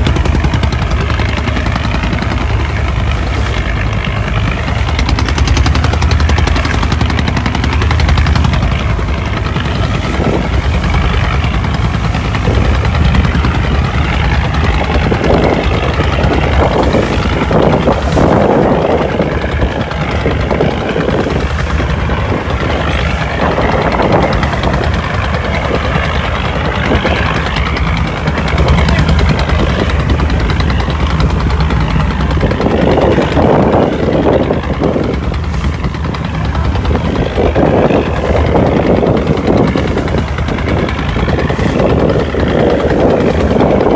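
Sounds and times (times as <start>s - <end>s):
boat engine droning: 0.0s - 43.9s
rushing noise: 0.0s - 43.9s.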